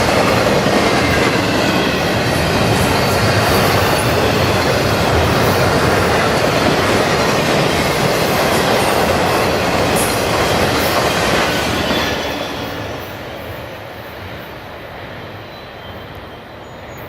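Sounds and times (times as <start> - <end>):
freight train wheels clattering on rail: 0.0 - 14.4.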